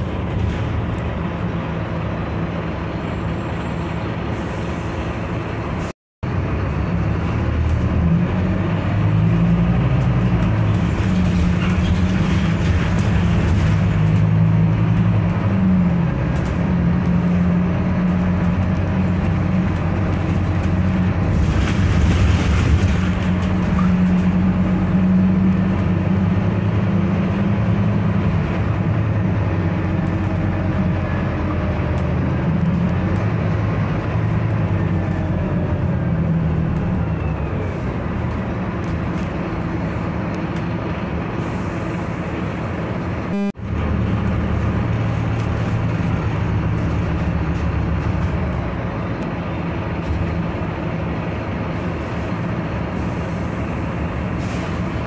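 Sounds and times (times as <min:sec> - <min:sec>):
bus engine droning: 0:00.0 - 0:55.0
road noise: 0:00.0 - 0:55.0.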